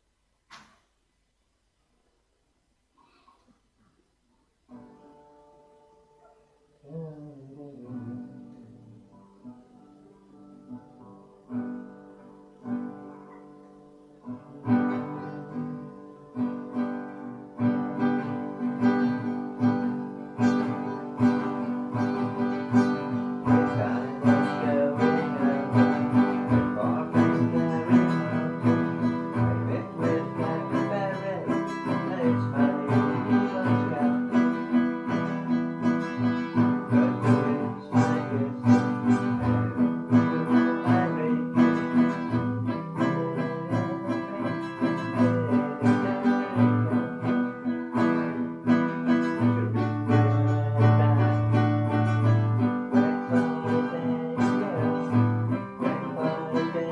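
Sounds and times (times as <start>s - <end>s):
acoustic guitar: 0.0s - 56.9s.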